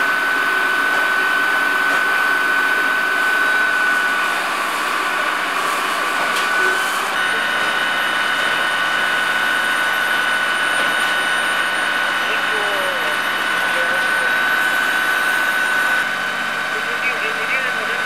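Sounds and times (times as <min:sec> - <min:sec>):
pump engine whining: 0:00.0 - 0:18.0.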